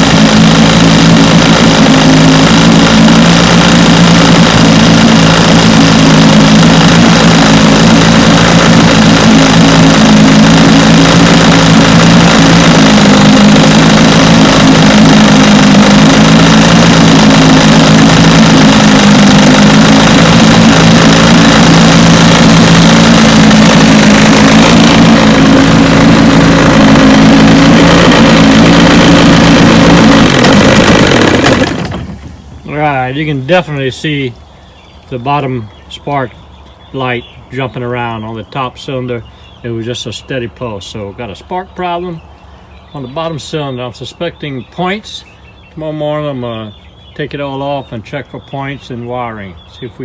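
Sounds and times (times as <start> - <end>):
outboard motor idling: 0.0 - 50.0.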